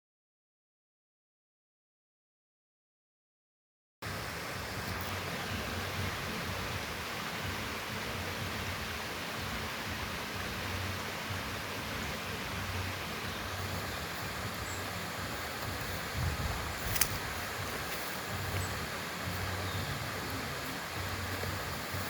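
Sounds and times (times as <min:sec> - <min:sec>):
waterfall rushing: 0:04.0 - 0:22.0.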